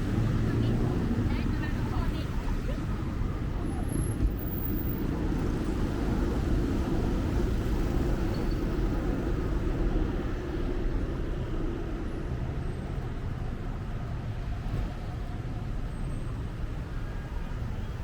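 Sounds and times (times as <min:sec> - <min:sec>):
busy road traffic rumble: 0:00.0 - 0:18.0.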